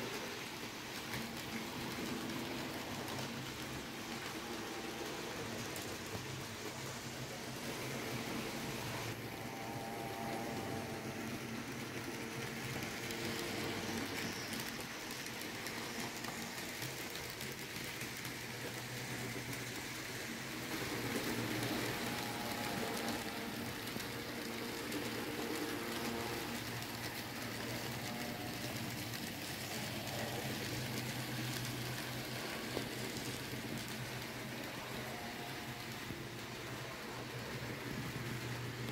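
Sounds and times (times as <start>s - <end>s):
model train wheels rattling on rail: 0.0s - 38.9s
small electric motors humming: 7.1s - 38.7s.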